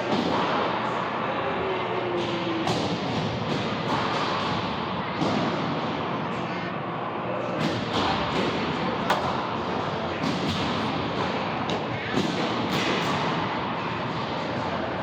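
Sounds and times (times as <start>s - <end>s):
crowd voices and movement: 0.0s - 15.0s.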